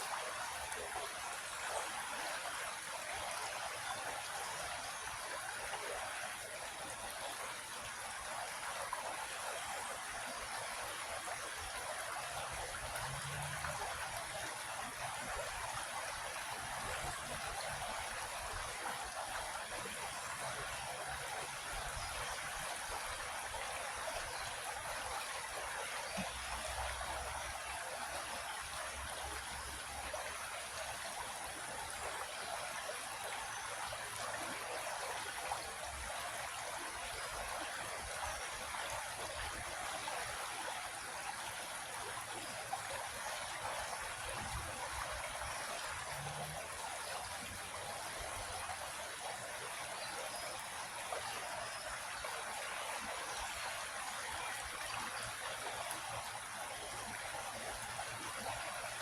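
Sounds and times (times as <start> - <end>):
creek water flowing over rocks: 0.0 - 59.0.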